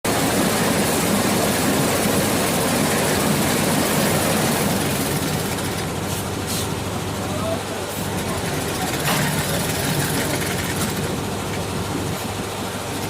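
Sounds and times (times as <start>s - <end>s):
machine running steadily: 0.0s - 13.0s.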